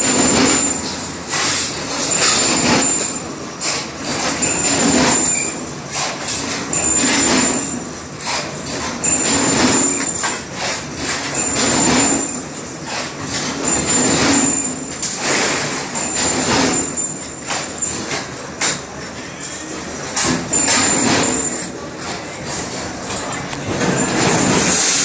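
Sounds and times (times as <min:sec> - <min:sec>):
steady mechanical din: 0:00.0 - 0:18.9, 0:20.0 - 0:25.0
metal scraping and clanking: 0:00.0 - 0:25.0.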